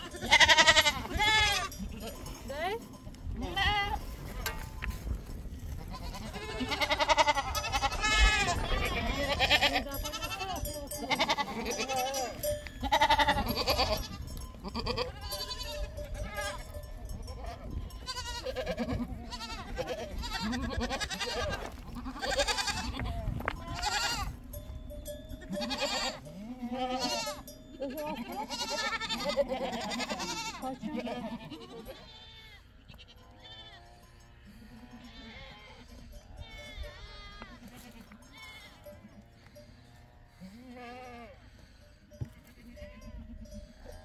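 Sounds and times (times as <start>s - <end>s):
goats and sheep bleating: 0.0s - 44.0s.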